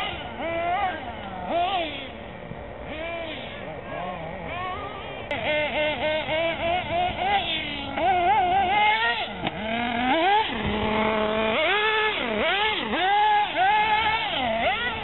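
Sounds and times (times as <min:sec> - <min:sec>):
rc car motors revving: 0:00.0 - 0:15.0.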